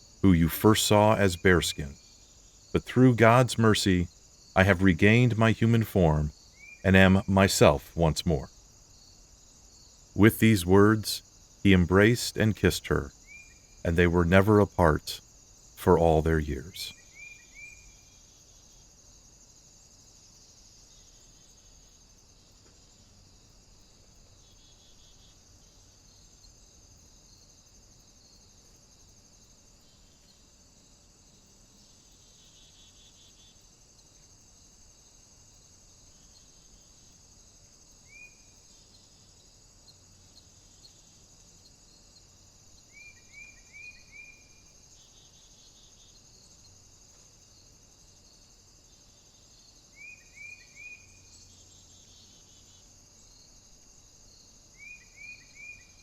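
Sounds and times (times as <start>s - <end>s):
crickets chirring: 0.0s - 56.0s.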